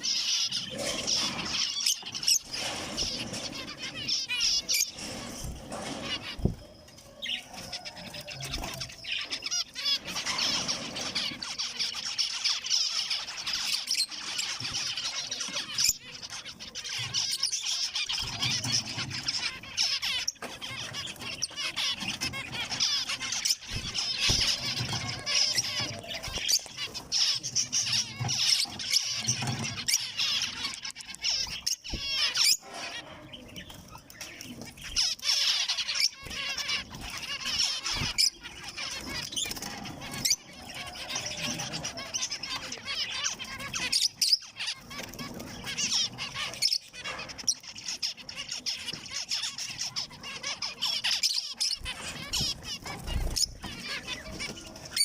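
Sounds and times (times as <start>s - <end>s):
finches calling and chattering: 0.0s - 55.0s.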